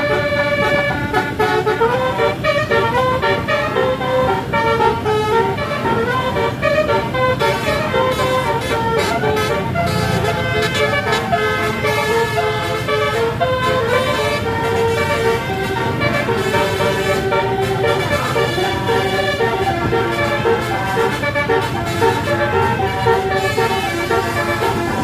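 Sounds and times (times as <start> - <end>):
bus engine running: 0.0 - 25.0
musical air horn melody: 0.0 - 25.0.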